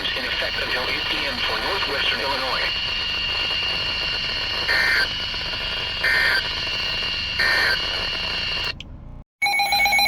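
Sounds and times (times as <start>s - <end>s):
radio hiss: 0.0s - 8.7s
steady high whine: 0.0s - 8.8s.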